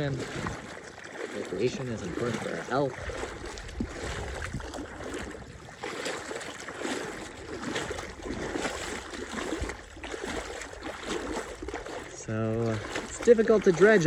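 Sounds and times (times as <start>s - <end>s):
water sloshing from wading: 0.0s - 14.0s.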